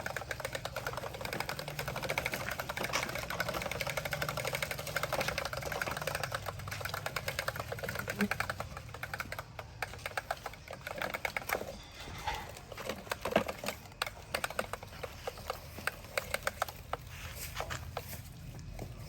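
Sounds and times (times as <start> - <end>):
toy vehicles clicking and rattling: 0.0 - 19.0.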